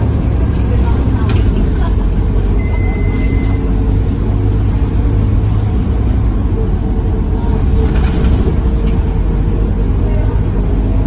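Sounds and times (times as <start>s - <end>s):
bus engine and road drone: 0.0s - 11.0s.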